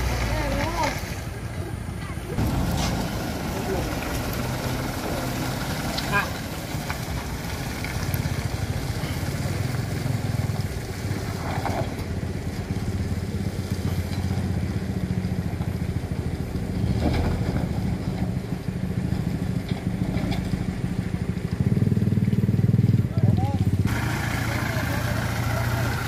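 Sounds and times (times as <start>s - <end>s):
truck engine running at low speed: 0.0s - 26.0s.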